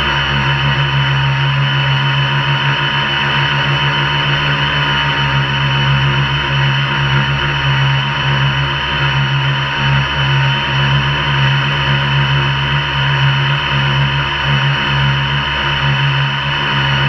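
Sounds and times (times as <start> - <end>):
drone motors humming: 0.0 - 17.0.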